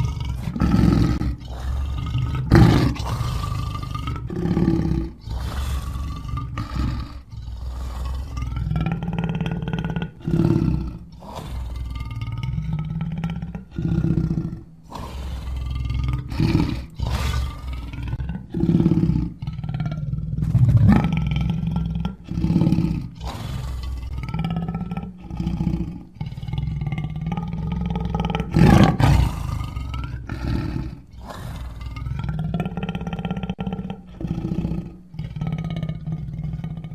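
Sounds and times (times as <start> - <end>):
lions roaring and growling: 0.0 - 36.9.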